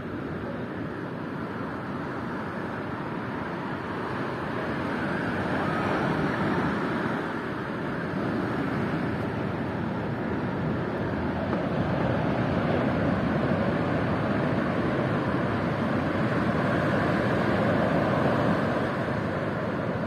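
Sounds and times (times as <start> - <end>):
steady outdoor rushing noise: 0.0 - 20.0.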